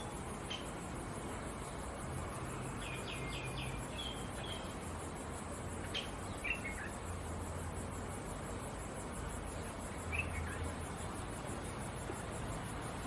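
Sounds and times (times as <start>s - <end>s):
small birds chirping: 0.0s - 13.0s
steady hiss: 0.0s - 13.0s.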